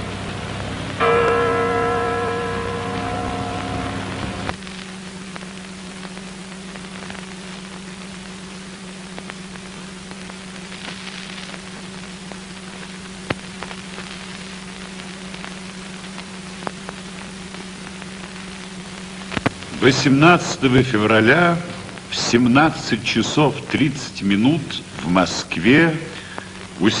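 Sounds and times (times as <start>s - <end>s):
film soundtrack hum and hiss: 0.0s - 27.0s.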